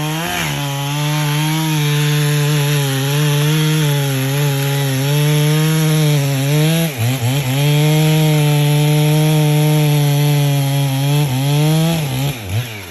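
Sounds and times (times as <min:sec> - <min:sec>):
chainsaw cutting into log: 0:00.0 - 0:12.9.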